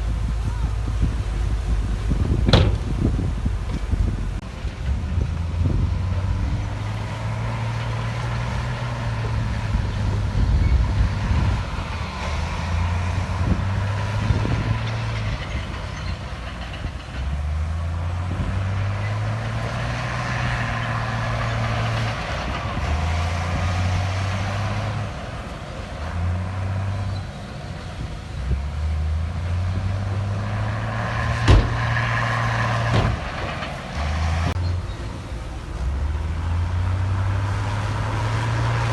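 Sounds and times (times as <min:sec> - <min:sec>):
diesel construction machine engine: 0:00.0 - 0:38.9.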